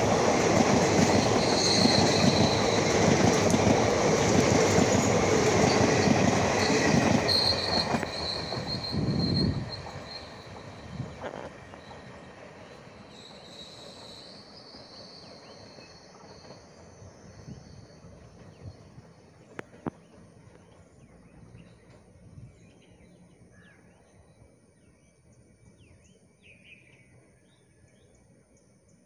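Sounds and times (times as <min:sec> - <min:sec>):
train rumble: 0:00.0 - 0:23.5.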